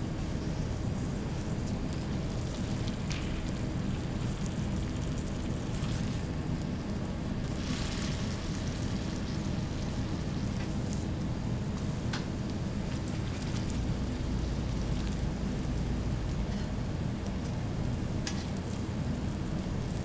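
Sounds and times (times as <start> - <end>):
low kitchen rumble: 0.0 - 20.0
faint sizzling on griddle: 0.2 - 20.0.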